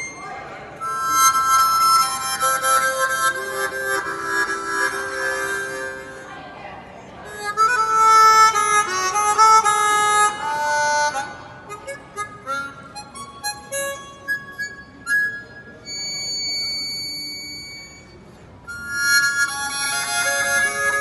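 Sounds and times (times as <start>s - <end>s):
harmonica melody: 0.0s - 6.3s, 7.2s - 21.0s.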